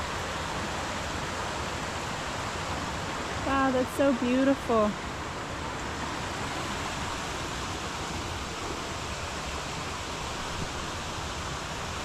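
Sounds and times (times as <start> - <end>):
flowing stream: 0.0 - 12.0.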